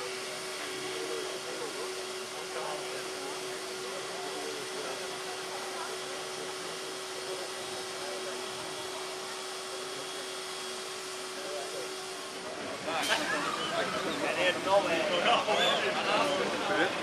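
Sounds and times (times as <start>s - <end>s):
constant hum: 0.0s - 17.0s
faint voices: 0.0s - 17.0s.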